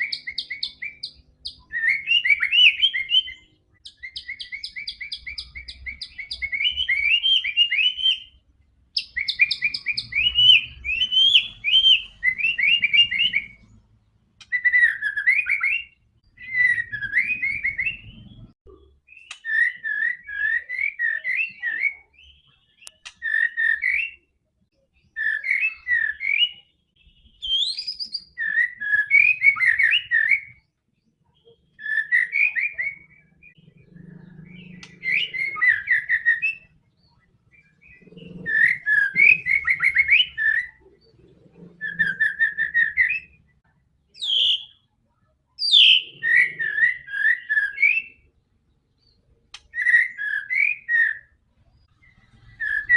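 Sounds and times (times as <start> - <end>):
bird singing whistled phrases: 0.0 - 8.4, 9.0 - 13.7, 14.4 - 24.3, 25.0 - 30.7, 31.3 - 33.6, 34.4 - 40.9, 41.8 - 44.8, 45.6 - 48.3, 49.0 - 51.4, 52.0 - 52.9.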